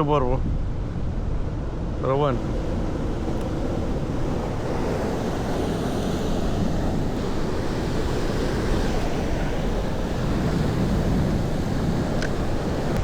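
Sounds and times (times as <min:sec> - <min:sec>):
sea waves washing against shore: 0:00.0 - 0:13.0
wind rumbling on microphone: 0:00.0 - 0:13.0.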